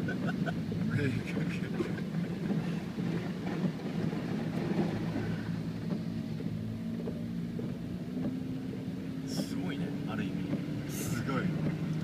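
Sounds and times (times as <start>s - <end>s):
car engine running: 0.0s - 12.0s
water rushing: 0.0s - 12.0s.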